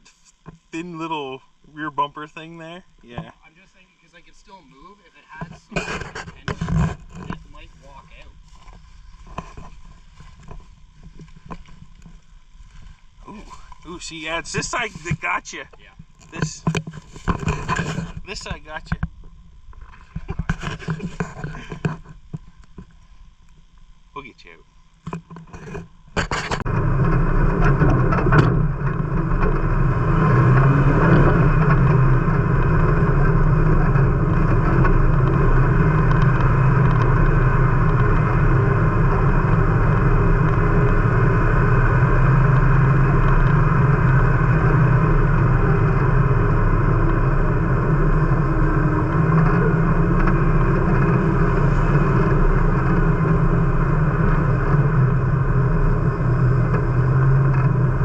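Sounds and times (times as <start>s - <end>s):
car engine running: 3.7s - 22.8s, 25.0s - 58.0s.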